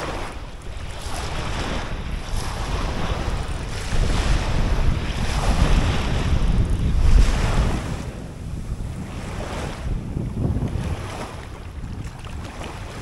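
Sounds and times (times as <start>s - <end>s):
small waves lapping: 0.0s - 13.0s
wind buffeting microphone: 0.0s - 13.0s.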